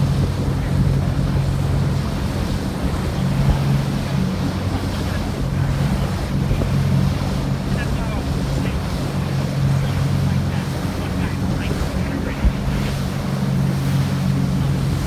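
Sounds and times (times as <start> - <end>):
boat engine droning: 0.0 - 15.0
water rushing past hull: 0.0 - 15.0
wind buffeting microphone: 0.0 - 15.0.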